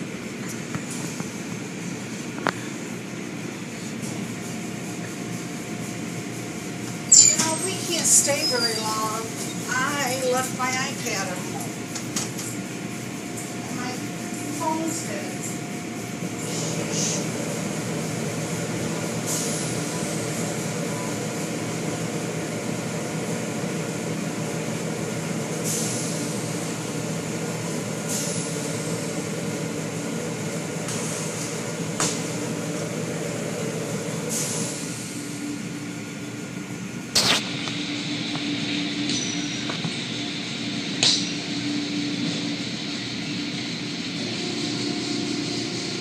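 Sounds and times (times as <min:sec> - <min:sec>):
car wash machinery humming: 0:00.0 - 0:46.0.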